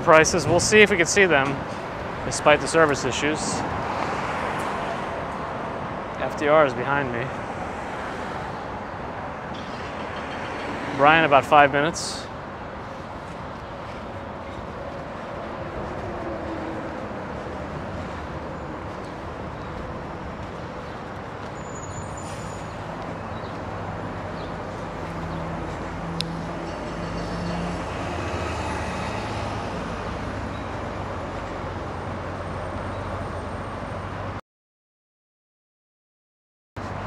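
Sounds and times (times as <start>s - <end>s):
road traffic with engine hum: 0.0s - 34.4s, 36.8s - 37.0s.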